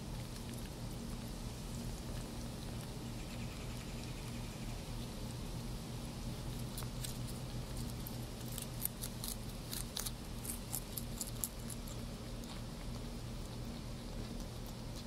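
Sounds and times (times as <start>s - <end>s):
low steady hum: 0.0s - 15.0s
rabbit chewing lettuce: 0.0s - 15.0s.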